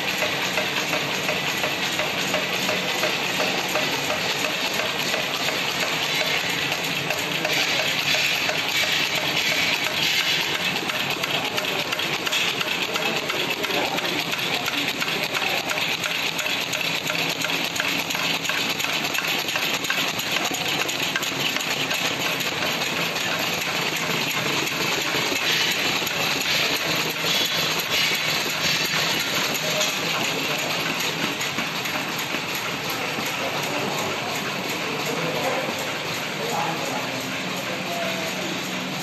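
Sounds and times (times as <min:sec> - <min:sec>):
machine clatter and belt hiss: 0:00.0 - 0:39.0.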